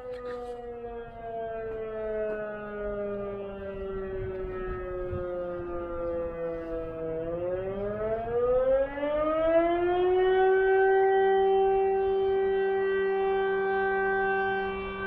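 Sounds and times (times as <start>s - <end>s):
civil defense siren: 0.0s - 15.0s.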